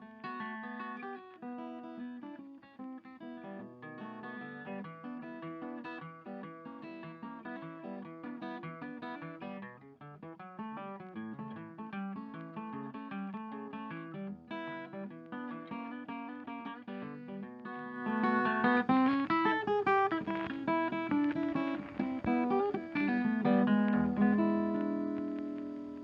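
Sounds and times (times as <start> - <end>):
blues acoustic guitar music: 0.0 - 26.0.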